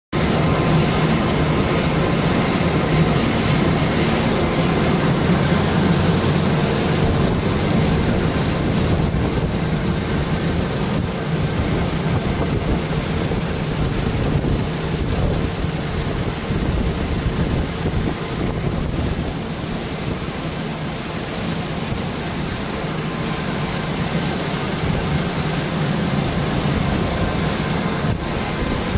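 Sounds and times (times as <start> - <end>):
industrial machinery noise: 0.2 - 28.9.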